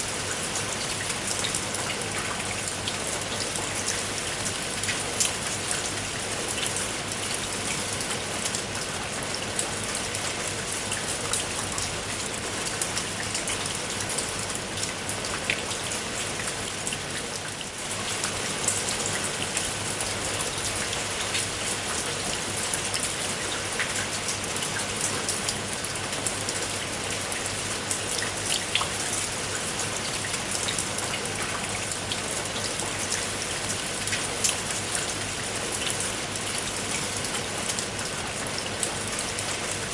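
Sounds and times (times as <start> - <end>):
steady rain with raindrop ticks: 0.0 - 39.9.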